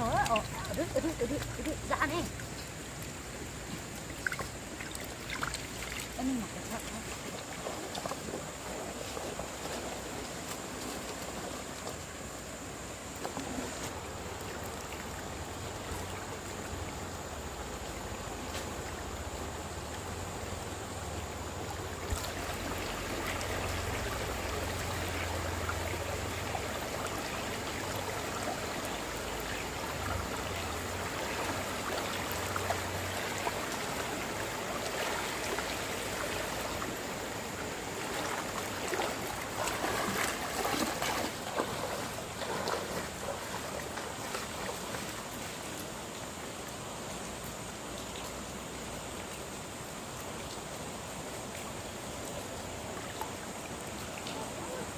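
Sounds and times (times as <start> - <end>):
stream water flowing: 0.0 - 54.9.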